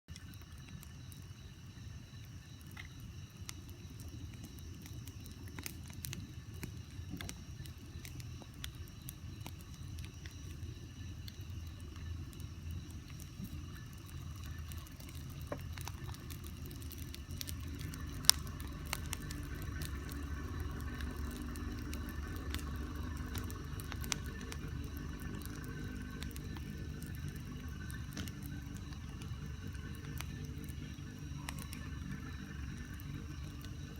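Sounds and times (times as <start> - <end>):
bonfire crackling and popping: 0.1 - 33.9
fire low rumble: 0.1 - 33.9.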